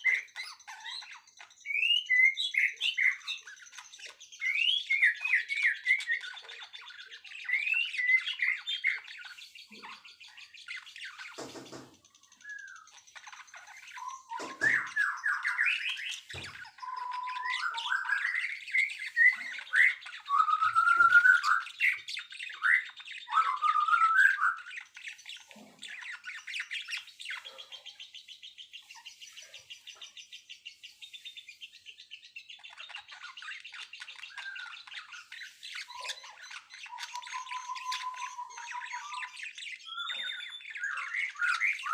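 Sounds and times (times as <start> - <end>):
songbirds singing and chirping: 0.0 - 41.9.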